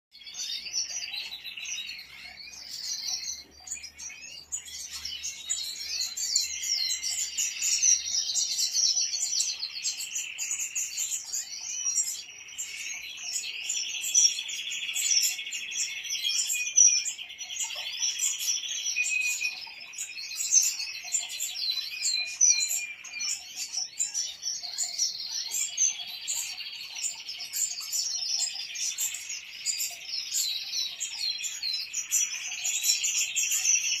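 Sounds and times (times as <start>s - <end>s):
finches twittering: 0.2s - 34.0s.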